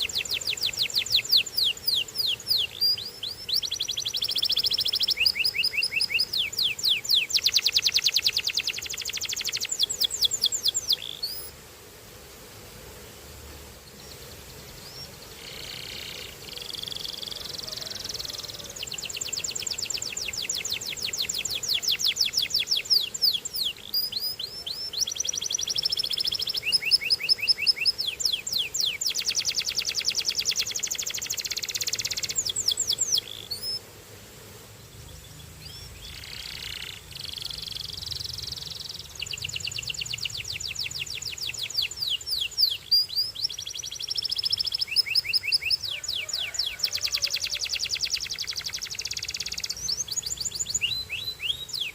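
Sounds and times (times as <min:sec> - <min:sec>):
canary singing trills: 0:00.0 - 0:11.5, 0:14.0 - 0:33.8, 0:35.0 - 0:51.9.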